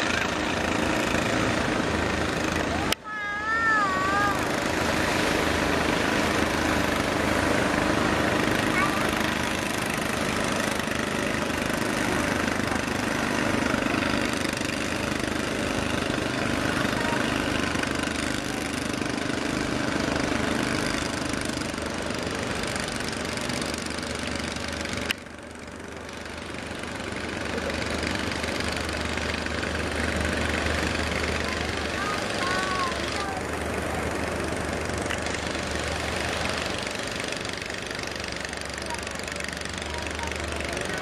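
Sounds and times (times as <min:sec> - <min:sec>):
boat engine thrumming: 0:00.0 - 0:41.0.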